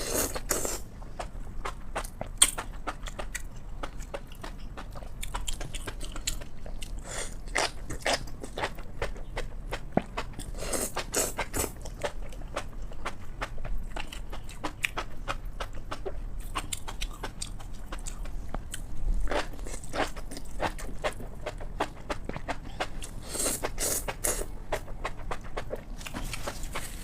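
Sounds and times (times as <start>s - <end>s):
chewing and eating: 0.0s - 27.0s.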